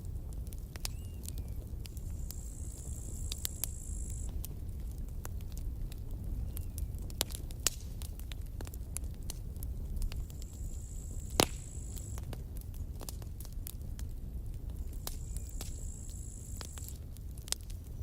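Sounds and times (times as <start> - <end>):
burning wood crackles and pops: 0.0 - 18.0
campfire low rumble: 0.0 - 18.0.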